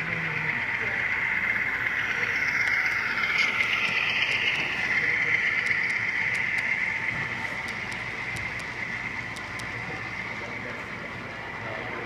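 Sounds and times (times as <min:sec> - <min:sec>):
model train whirring on track: 0:00.0 - 0:12.0.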